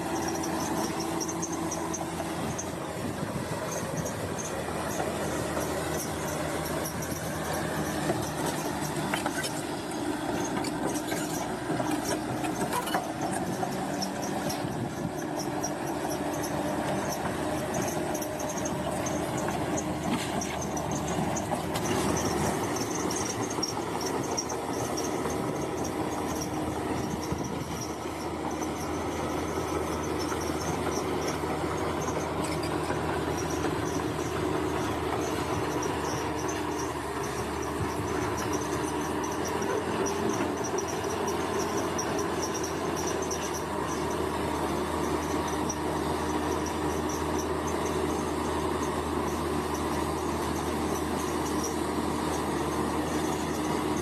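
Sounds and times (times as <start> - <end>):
diesel engine running: 0.0 - 54.0
steel tracks squealing and clanking: 0.0 - 54.0.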